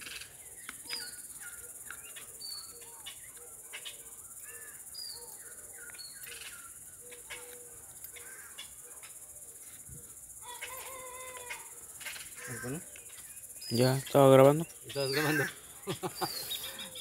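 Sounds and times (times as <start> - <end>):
birds chirping: 0.0 - 17.0
insects buzzing: 0.0 - 17.0.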